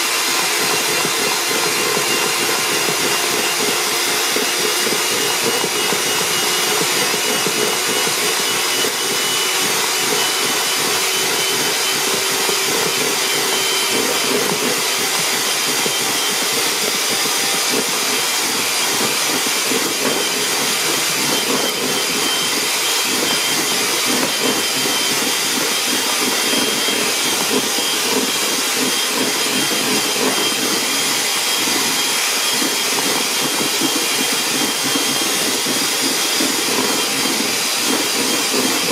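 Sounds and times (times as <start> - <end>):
electric hand mixer running: 0.0 - 38.9.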